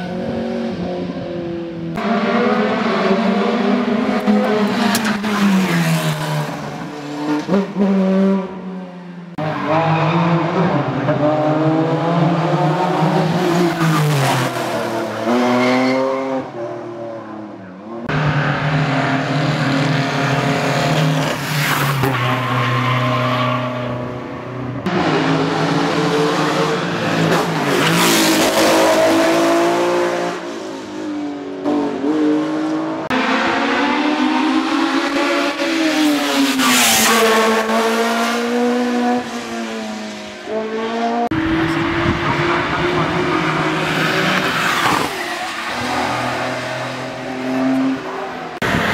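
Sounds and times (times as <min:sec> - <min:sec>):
racing car engines revving: 0:00.0 - 0:48.9.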